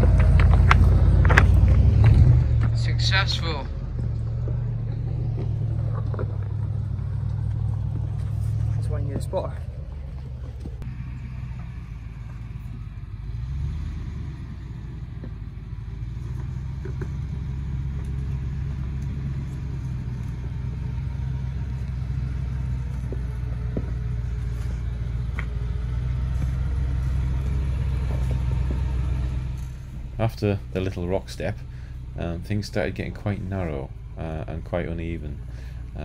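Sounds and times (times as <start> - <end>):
engine running at low revs: 0.0 - 36.0.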